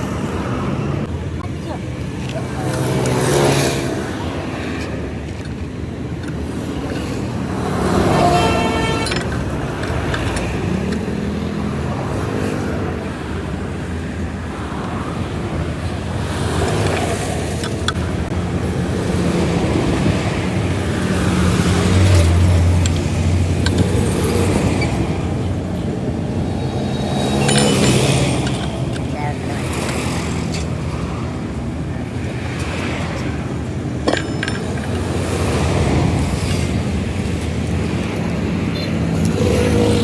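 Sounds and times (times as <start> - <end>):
vehicles passing by: 0.0 - 40.0.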